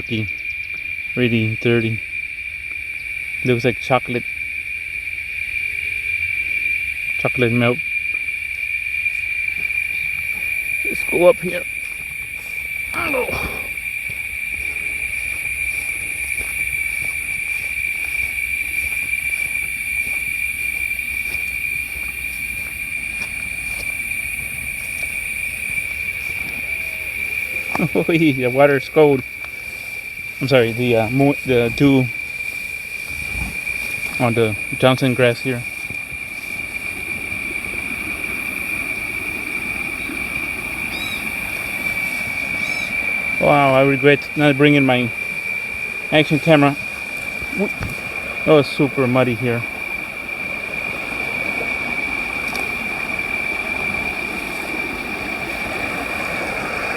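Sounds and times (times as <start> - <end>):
insects buzzing: 0.0 - 56.9
steady high-pitched whine: 0.0 - 56.9.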